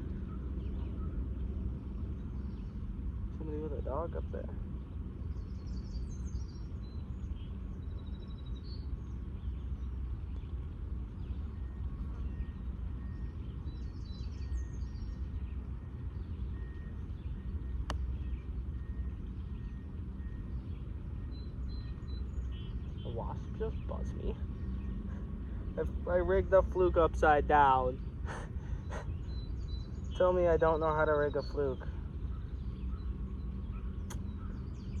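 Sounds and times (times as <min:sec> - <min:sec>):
low background rumble: 0:00.0 - 0:35.0
small birds chirping: 0:00.0 - 0:35.0.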